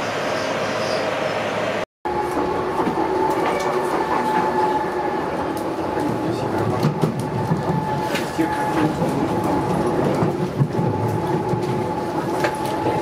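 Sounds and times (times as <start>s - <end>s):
train motor whine: 0.0s - 13.0s
wheels rumbling: 0.0s - 13.0s.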